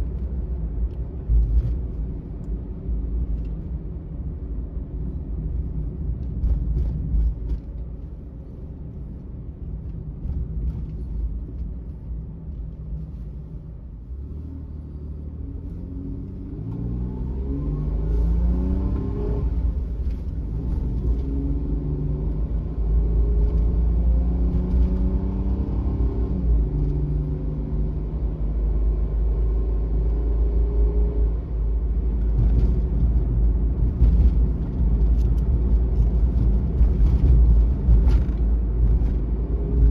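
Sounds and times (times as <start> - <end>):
van engine and road rumble: 0.0 - 39.9.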